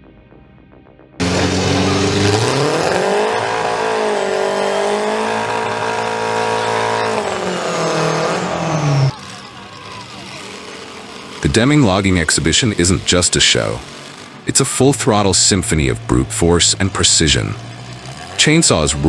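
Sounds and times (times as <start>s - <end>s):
engine starting and revving: 1.2s - 19.0s.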